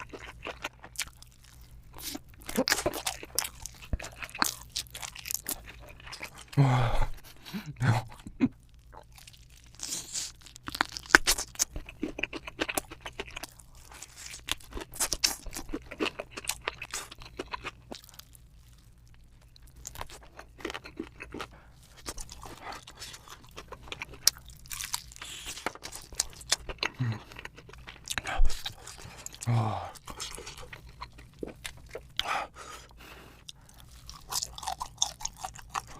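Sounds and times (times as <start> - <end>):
chewing and crunching: 0.0 - 35.9.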